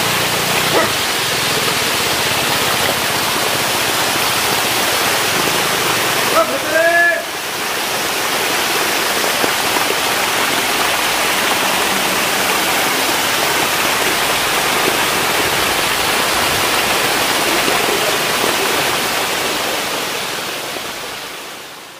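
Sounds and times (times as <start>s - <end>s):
water jets splashing into tanks: 0.0s - 21.9s.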